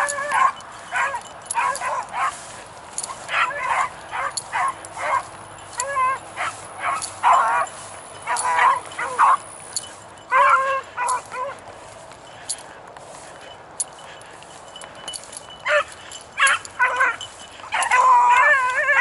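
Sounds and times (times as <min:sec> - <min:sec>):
beagles baying: 0:00.0 - 0:19.0.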